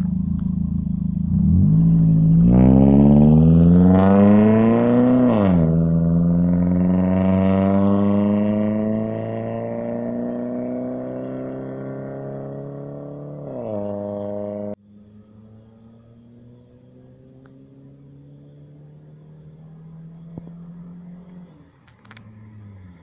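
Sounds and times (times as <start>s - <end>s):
car accelerating: 0.0s - 23.0s
car engine revving: 0.0s - 23.0s.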